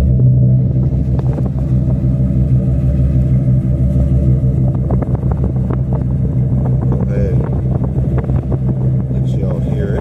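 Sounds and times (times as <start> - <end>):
engine idling with deep rumble: 0.0 - 10.0.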